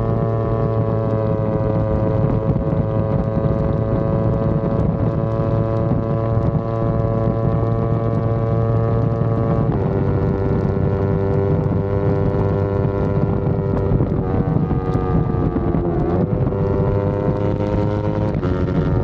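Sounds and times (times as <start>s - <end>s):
motorcycle engine running: 0.0s - 19.0s
wind rushing on microphone: 0.0s - 19.0s.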